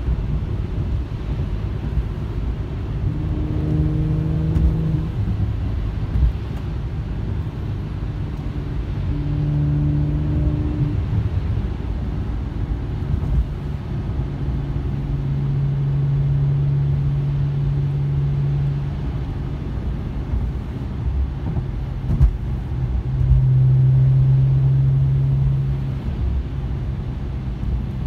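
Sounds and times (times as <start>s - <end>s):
car rumble inside cabin: 0.0s - 28.0s
low exhaust drone: 0.0s - 28.0s
tyre noise on wet road: 0.0s - 28.0s.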